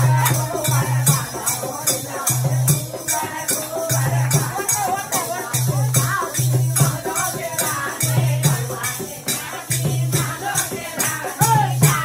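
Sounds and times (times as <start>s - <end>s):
women singing folk song: 0.0s - 12.0s.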